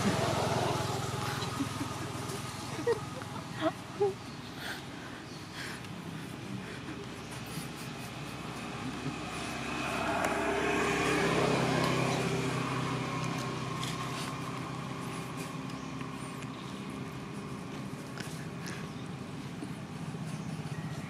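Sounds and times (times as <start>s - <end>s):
vehicle engine passing by: 0.0s - 3.5s, 7.4s - 21.0s.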